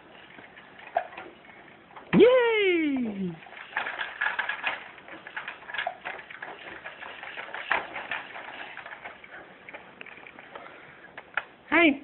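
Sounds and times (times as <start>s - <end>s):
activity jumper clicks and rattles: 0.0s - 12.0s.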